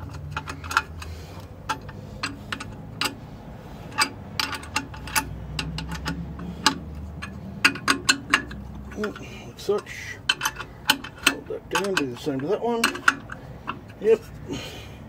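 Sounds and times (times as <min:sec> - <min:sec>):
spanner clicking on metal nuts: 0:00.0 - 0:14.5.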